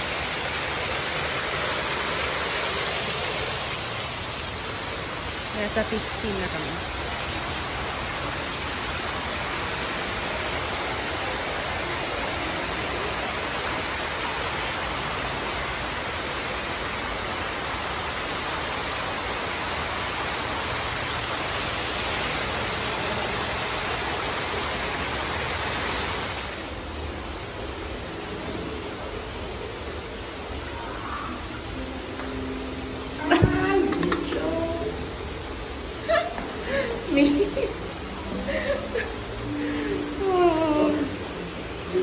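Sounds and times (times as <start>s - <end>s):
water rushing and falling: 0.0s - 42.0s.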